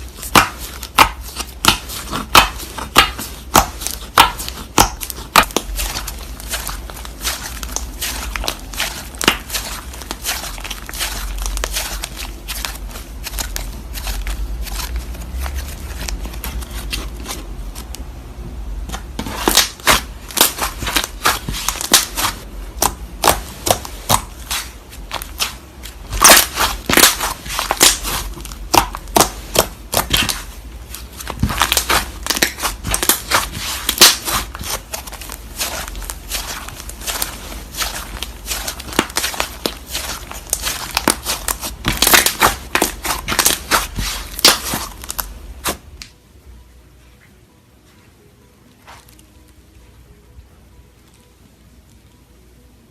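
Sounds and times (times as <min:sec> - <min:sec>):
slime popping and crackling: 0:00.0 - 0:17.2, 0:19.2 - 0:46.0.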